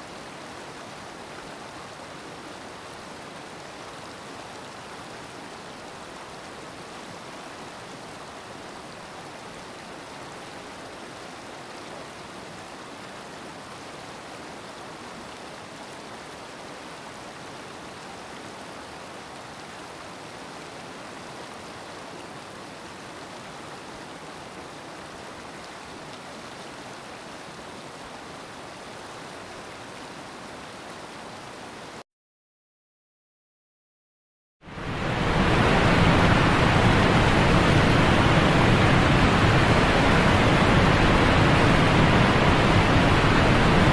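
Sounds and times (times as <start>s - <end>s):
water rushing down a spillway: 0.0s - 32.0s, 34.7s - 43.9s.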